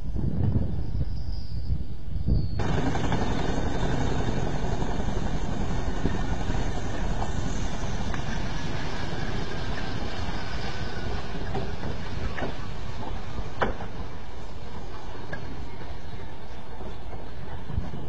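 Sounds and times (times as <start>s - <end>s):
helicopter rotor and turbine noise: 0.0s - 18.0s.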